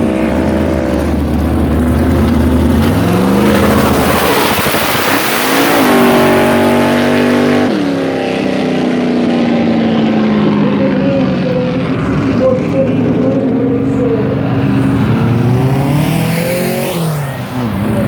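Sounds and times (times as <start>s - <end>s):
off-road vehicle engine revving: 0.0s - 18.0s
steady rushing noise: 0.0s - 18.0s.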